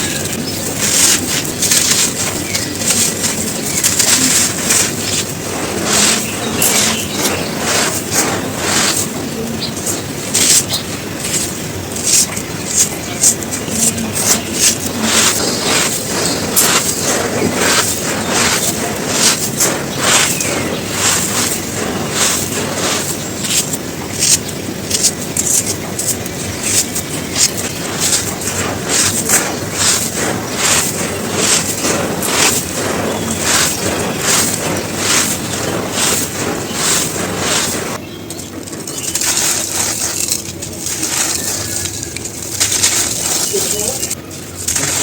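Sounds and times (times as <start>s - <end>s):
dry cones crunching: 0.0s - 45.0s.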